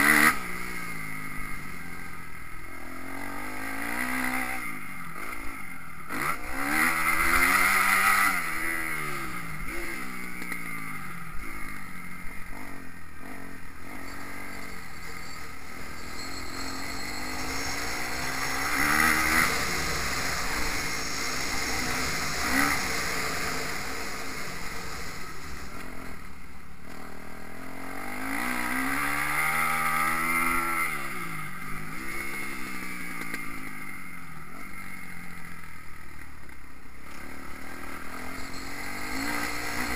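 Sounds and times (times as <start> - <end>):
motocross bike engine revving: 0.0 - 35.5, 37.0 - 39.9.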